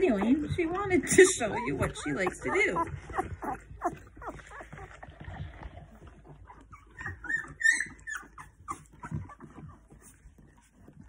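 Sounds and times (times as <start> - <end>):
puppy squeaks: 0.0 - 4.9, 6.4 - 10.5
dog licking and snuffling: 0.0 - 11.0.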